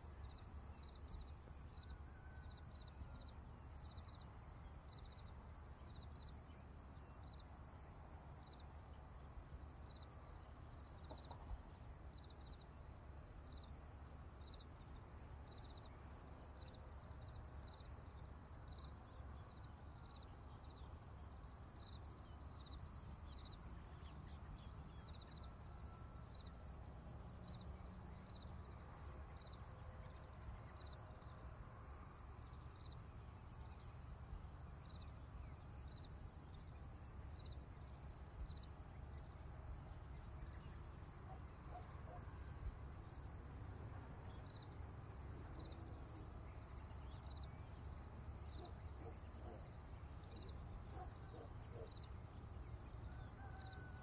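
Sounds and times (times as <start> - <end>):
crickets chirping: 0.0 - 54.0
single insect chirp: 0.0 - 54.0.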